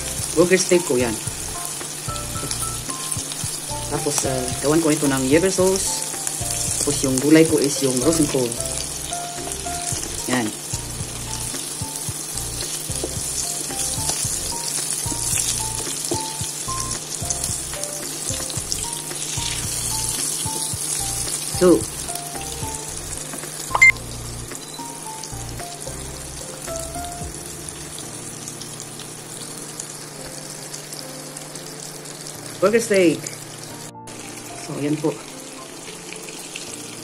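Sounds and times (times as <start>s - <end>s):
patties sizzling in a pan: 0.0s - 37.0s.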